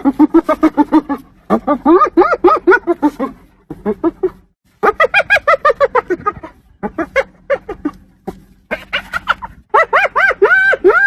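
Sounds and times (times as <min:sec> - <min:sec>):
hyena laughing: 0:00.0 - 0:11.0.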